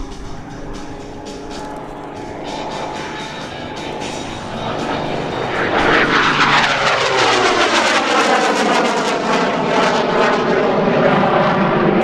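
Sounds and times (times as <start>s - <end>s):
airplane engine and propeller: 0.0s - 12.0s.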